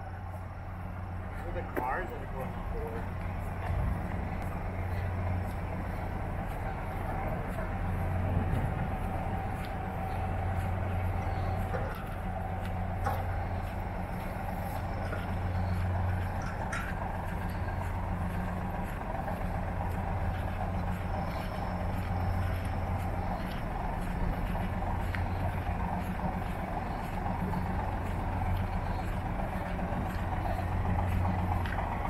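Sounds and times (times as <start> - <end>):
diesel engines idling: 0.0 - 32.0.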